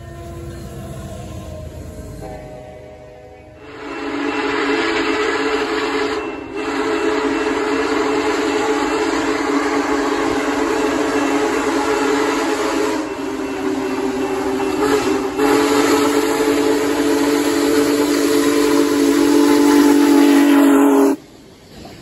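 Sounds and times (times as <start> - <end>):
steam locomotive chime whistle: 0.0 - 21.2
rumble of passing train: 0.0 - 22.0.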